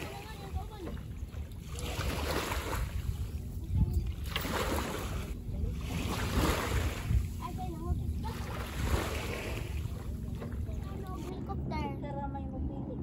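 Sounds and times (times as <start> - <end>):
shallow sea water washing: 0.0 - 11.3
wind buffeting microphone: 0.0 - 13.0.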